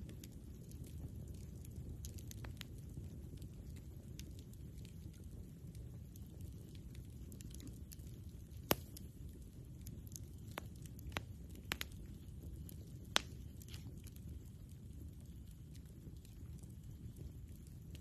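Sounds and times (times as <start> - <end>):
low steady rumble: 0.0 - 18.0
wood crackling and popping: 0.0 - 18.0.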